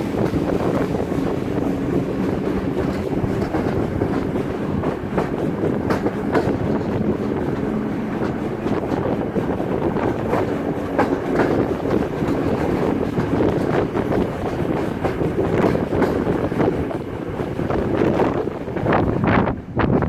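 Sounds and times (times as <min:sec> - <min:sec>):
train running noise: 0:00.0 - 0:20.0
train wheels clicking on rails: 0:00.0 - 0:20.0
wind on microphone: 0:00.0 - 0:20.0.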